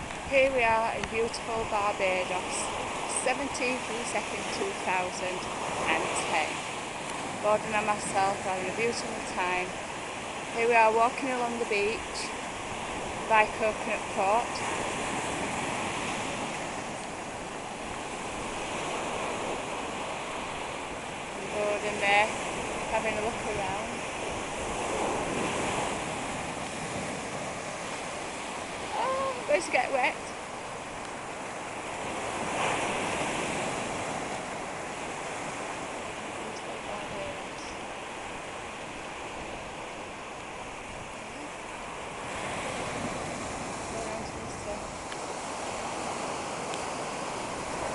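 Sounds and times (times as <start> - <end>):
waves breaking over rocks: 0.0 - 47.9.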